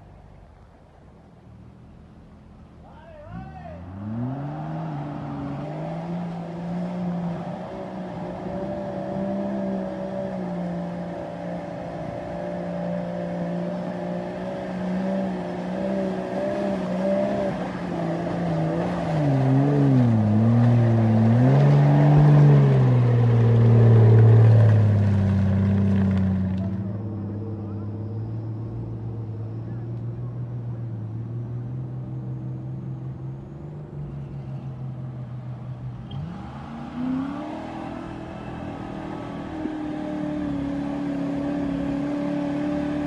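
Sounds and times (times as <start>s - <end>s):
off-road vehicle engine revving: 3.2s - 43.0s.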